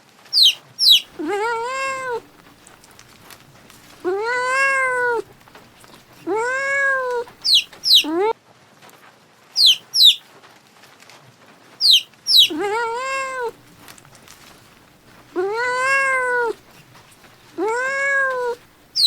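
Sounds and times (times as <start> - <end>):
animal chirping and calling: 0.4 - 8.3, 9.6 - 10.2, 11.8 - 19.0.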